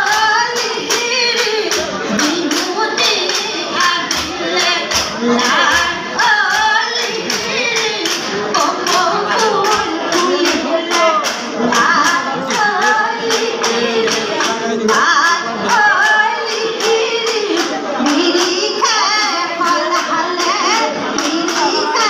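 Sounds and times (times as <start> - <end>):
sharp claps or clapper strikes: 0.0 - 22.0
women singing in a group: 0.0 - 22.0.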